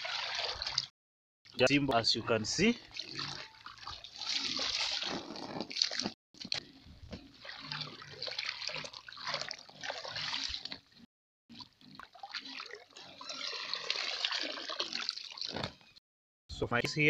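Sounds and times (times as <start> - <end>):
pond water sloshing and splashing: 0.0 - 0.9, 2.2 - 15.8.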